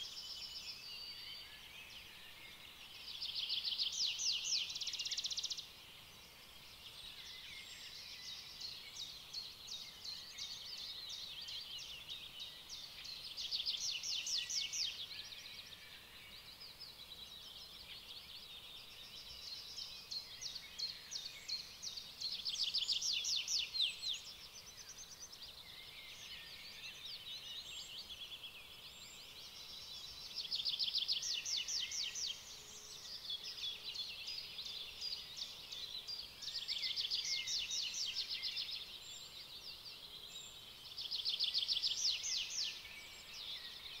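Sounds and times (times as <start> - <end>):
small birds chirping and trilling: 0.0 - 44.0.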